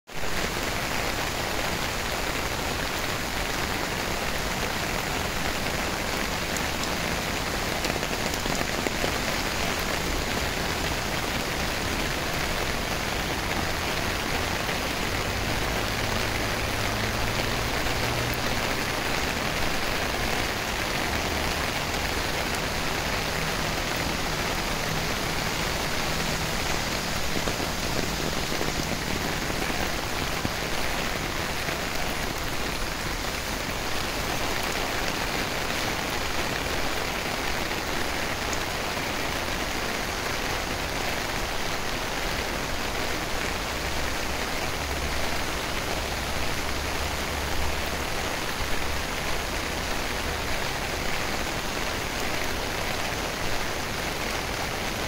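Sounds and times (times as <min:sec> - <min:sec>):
steady rain on paving and grass: 0:00.0 - 0:55.0.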